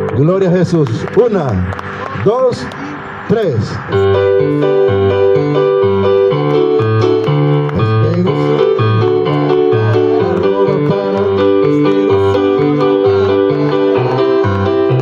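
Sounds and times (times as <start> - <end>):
keyboard music with chords and bass: 0.0 - 15.0.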